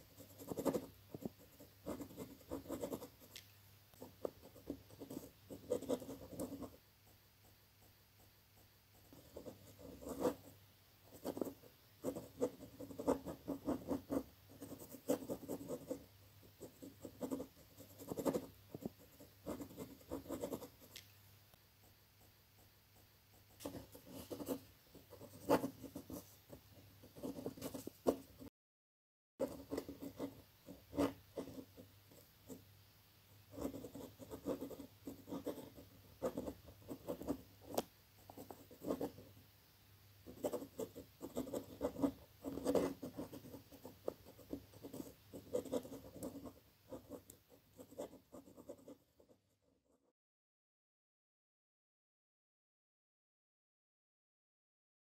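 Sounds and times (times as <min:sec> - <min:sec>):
pen scratching on paper: 0:00.0 - 0:21.0, 0:21.8 - 0:28.5, 0:29.4 - 0:32.6, 0:33.5 - 0:39.3, 0:40.3 - 0:50.1.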